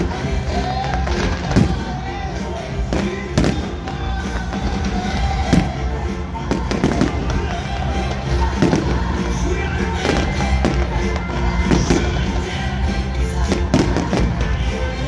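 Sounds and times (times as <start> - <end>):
music with heavy bass: 0.0 - 15.0.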